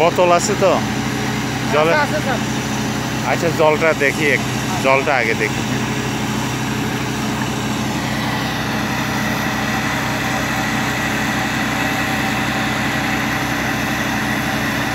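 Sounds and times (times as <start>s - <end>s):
engine running steadily: 0.0s - 14.9s.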